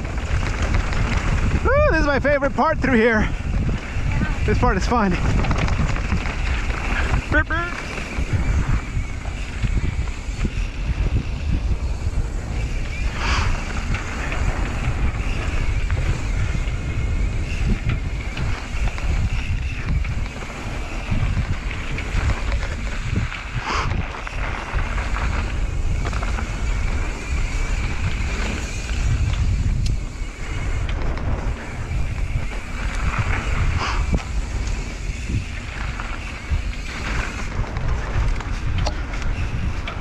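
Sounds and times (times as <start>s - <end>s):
tyre and trail rumble: 0.0s - 40.0s
wind buffeting microphone: 0.0s - 40.0s.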